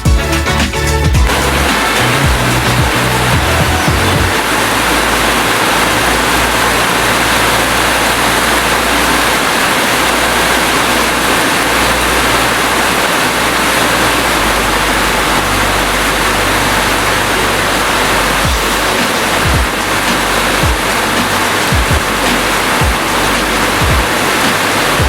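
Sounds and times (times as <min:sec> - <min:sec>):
heavy rain hiss: 0:00.0 - 0:25.0.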